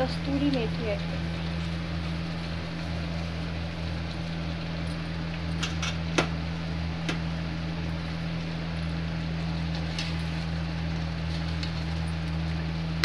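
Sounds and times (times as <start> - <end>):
cooktop hum and fan: 0.0 - 13.0.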